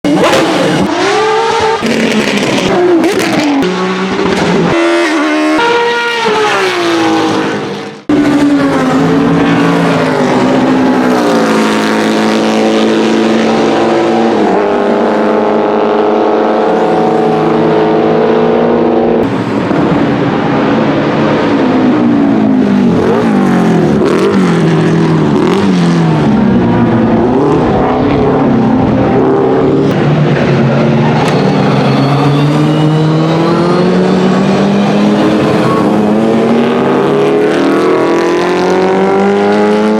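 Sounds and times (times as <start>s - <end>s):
racing engine revving: 0.1s - 39.9s.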